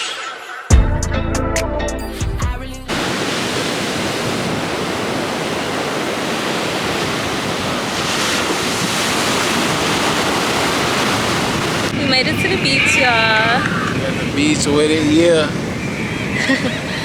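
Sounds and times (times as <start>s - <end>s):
ocean surf washing on beach: 2.9s - 17.0s
wind buffeting microphone: 2.9s - 17.0s.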